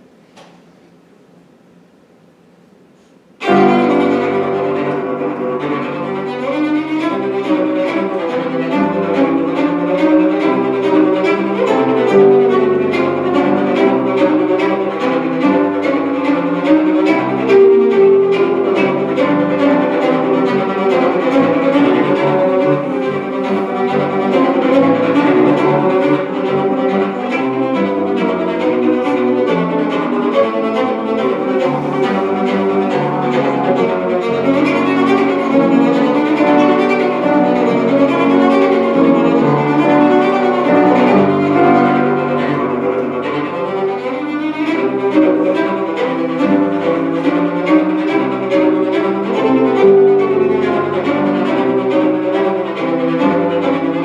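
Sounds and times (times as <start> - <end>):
bowed string instrument playing: 3.4 - 54.0.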